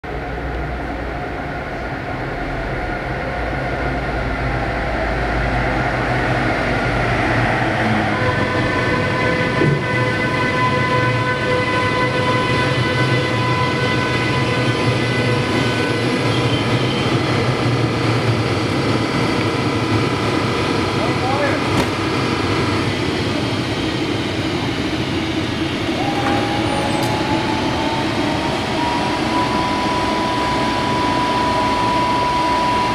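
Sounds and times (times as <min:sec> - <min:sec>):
locomotive whining tones: 0:00.1 - 0:32.9
train wheels rumbling: 0:00.1 - 0:32.9.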